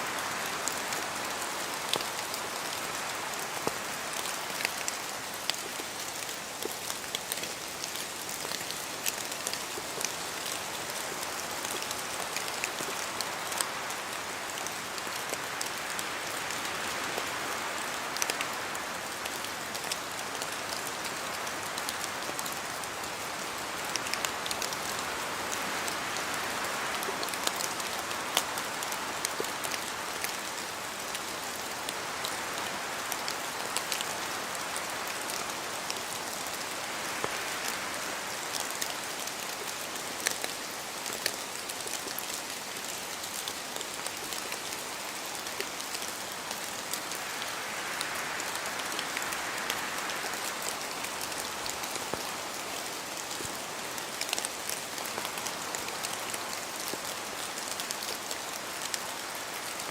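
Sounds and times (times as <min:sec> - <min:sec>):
rain falling: 0:00.0 - 0:59.9
raindrops pattering on leaves: 0:00.0 - 0:59.9.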